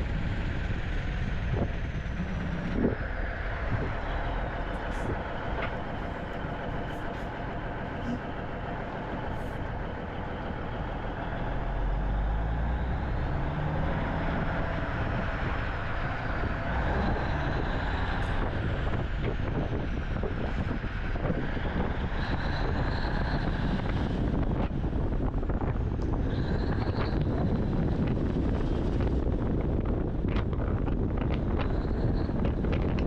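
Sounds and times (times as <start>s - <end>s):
truck diesel engine running: 0.0s - 33.0s.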